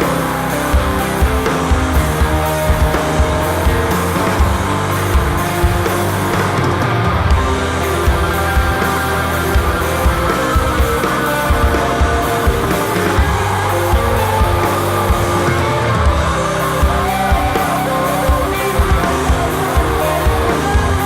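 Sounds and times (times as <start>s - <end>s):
bass sustained notes: 0.0s - 21.0s
distorted electric guitars: 0.0s - 21.0s
drum beat: 0.7s - 21.0s.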